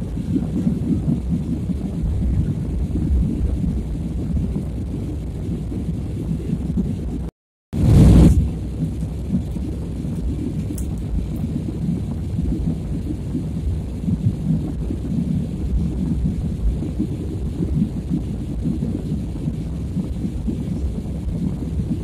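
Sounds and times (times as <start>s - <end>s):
airliner engines and airflow rumble: 0.0s - 22.0s.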